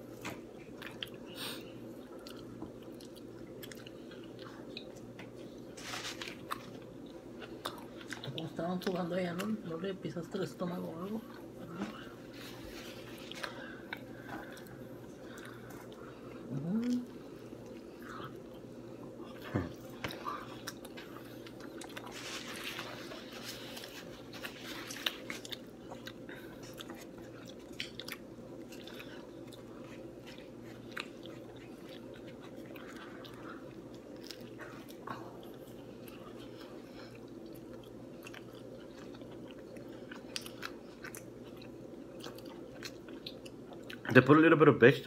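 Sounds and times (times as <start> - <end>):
person chewing crunchy pizza: 0.0 - 9.8, 10.7 - 44.5
steady low hum: 0.0 - 45.0.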